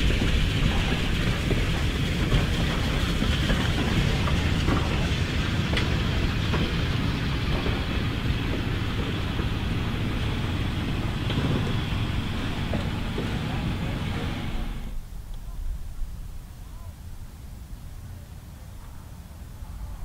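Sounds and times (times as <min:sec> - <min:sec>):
train coaches rumbling on rails: 0:00.0 - 0:16.9.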